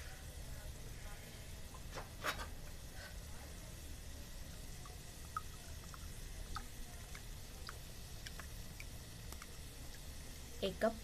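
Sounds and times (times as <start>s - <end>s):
sauce popping in a pot: 1.5s - 11.0s.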